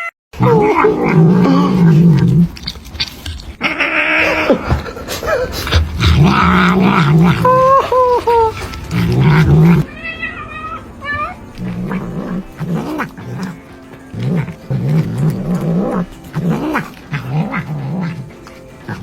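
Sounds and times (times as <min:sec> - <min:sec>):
pet animal calling loudly: 0:00.4 - 0:19.0.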